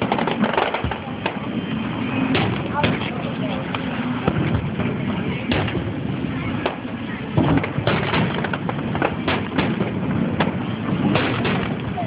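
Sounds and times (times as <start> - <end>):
fireworks bangs and pops: 0.0 - 1.5, 2.2 - 12.0
crowd voices: 0.0 - 12.0.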